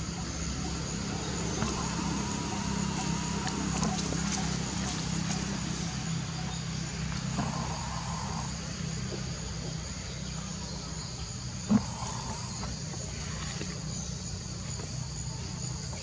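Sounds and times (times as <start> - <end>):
constant low hum: 0.0 - 16.0
high-pitched insect chorus: 0.0 - 16.0.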